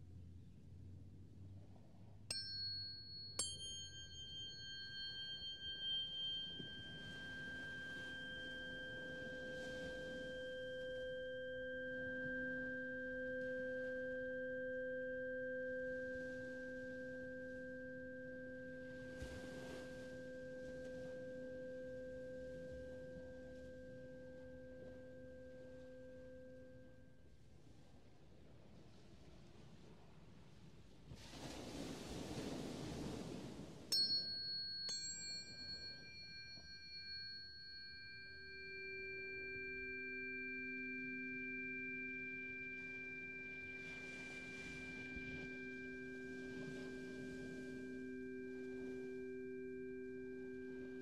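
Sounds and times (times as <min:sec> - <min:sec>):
tuning forks ringing: 0:02.3 - 0:27.4, 0:33.9 - 0:51.0
deeper tuning fork tones: 0:02.3 - 0:27.5, 0:33.9 - 0:51.0.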